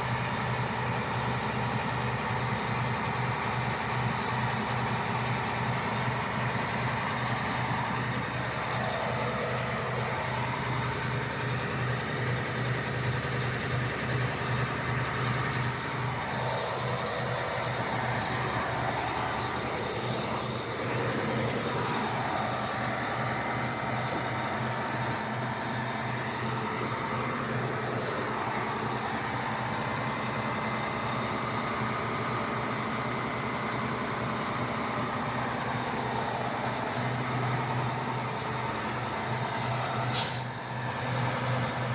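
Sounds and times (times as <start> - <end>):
engine running with pulsing hum: 0.0 - 41.9.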